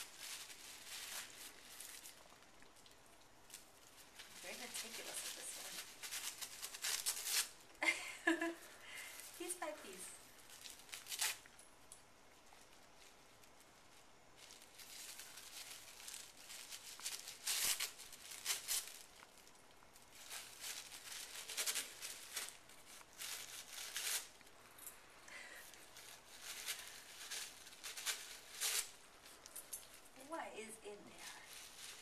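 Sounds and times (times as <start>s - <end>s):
plastic wrapping crinkling and ripping: 0.0s - 32.0s.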